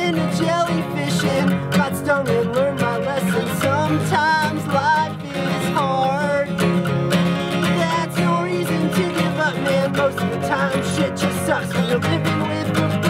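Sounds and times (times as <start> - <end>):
person singing: 0.0 - 13.0
strummed acoustic guitar: 0.0 - 13.0.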